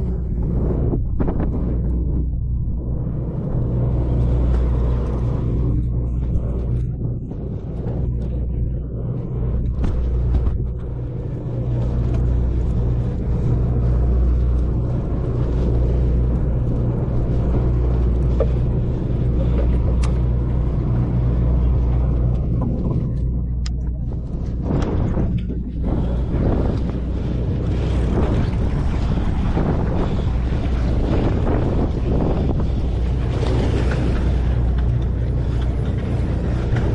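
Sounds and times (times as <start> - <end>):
boat engine droning: 0.0 - 36.9.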